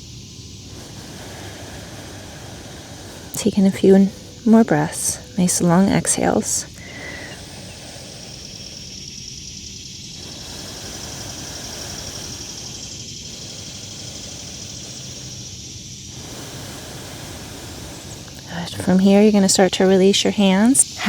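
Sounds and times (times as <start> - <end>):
cicadas droning: 0.0 - 21.0
low background rumble: 0.0 - 21.0.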